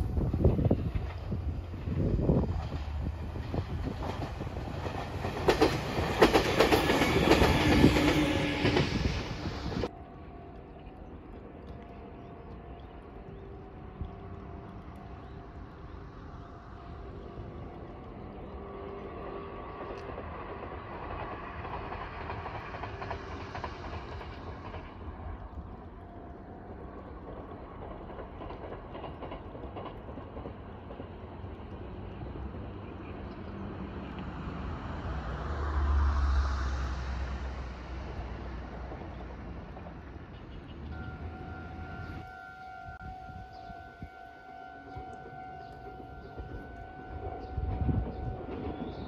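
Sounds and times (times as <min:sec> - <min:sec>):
distant electric train running: 0:00.0 - 0:49.0.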